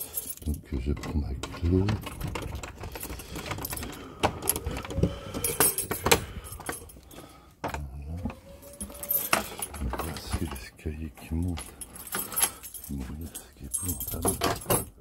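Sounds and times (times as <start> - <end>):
keys jangling: 0.0 - 7.2, 8.6 - 15.0.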